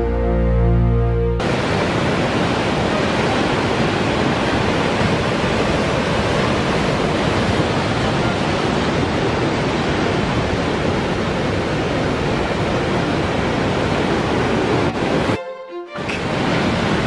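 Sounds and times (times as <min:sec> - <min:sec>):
heavy surf rushing: 0:01.4 - 0:17.0.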